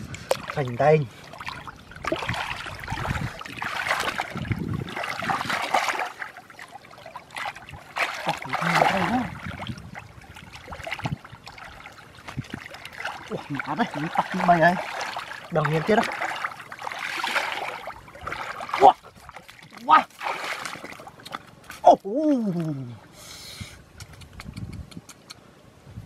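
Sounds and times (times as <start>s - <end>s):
hands sloshing in muddy water: 0.0s - 22.8s.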